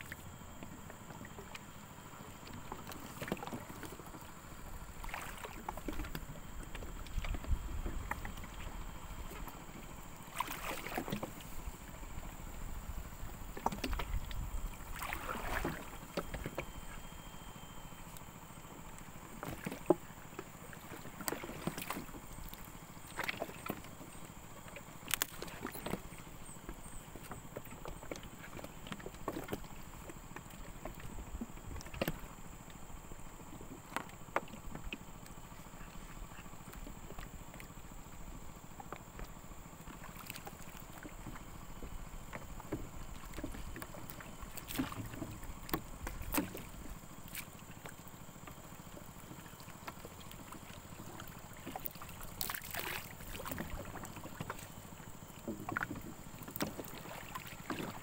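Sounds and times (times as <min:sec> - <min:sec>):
water sloshing: 0:00.0 - 0:58.0.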